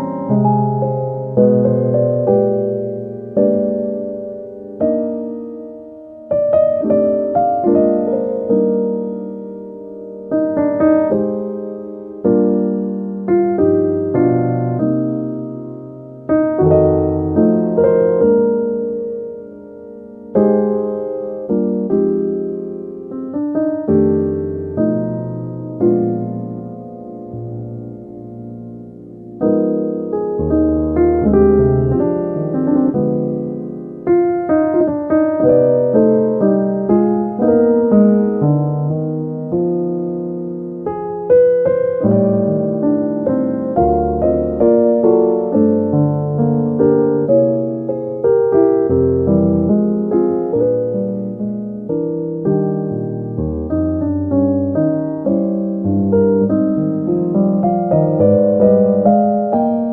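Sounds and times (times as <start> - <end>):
slow piano music: 0.0 - 59.9.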